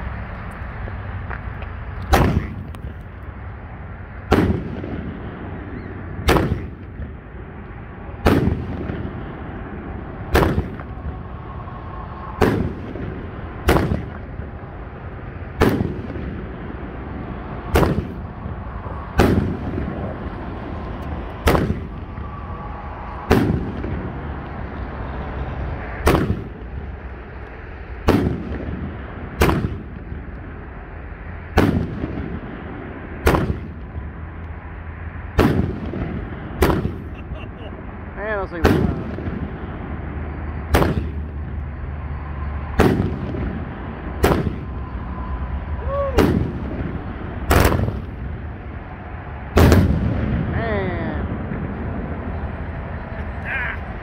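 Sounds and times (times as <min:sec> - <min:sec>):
rushing firework noise: 0:00.0 - 0:54.0
firework bangs: 0:02.1 - 0:03.0, 0:04.2 - 0:27.0, 0:28.0 - 0:30.6, 0:31.4 - 0:34.1, 0:35.3 - 0:37.9, 0:38.5 - 0:41.6, 0:42.6 - 0:48.5, 0:49.5 - 0:52.2.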